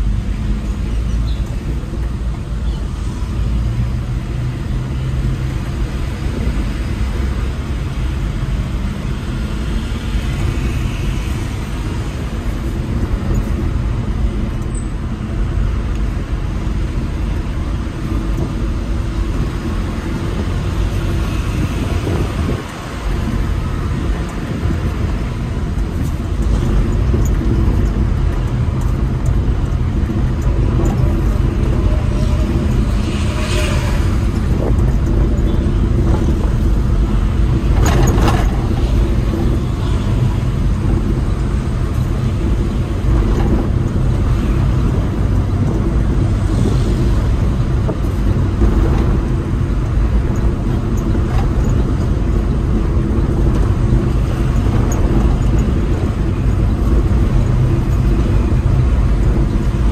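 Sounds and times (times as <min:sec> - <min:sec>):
road and wind rumble: 0:00.0 - 0:59.9.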